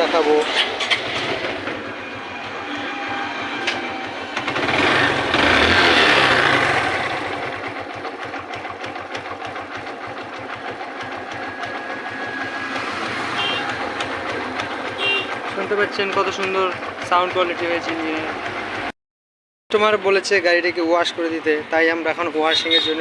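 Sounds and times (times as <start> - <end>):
motorcycle engine revving and idling: 0.0 - 18.9, 20.6 - 23.0.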